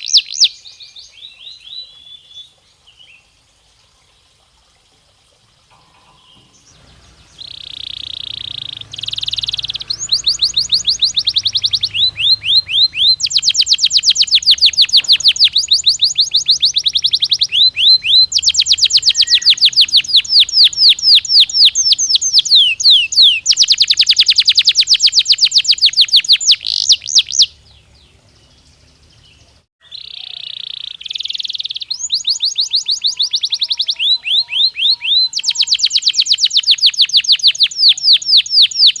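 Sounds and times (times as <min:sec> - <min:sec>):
canary singing rolling trills: 0:00.0 - 0:39.0.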